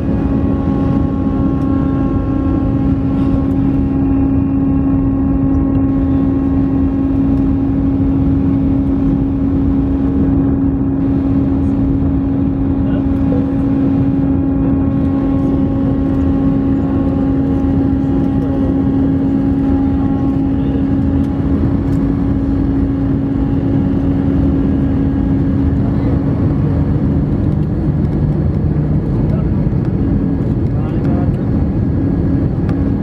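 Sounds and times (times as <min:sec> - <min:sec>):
jet engine and airflow rumble: 0:00.0 - 0:33.0.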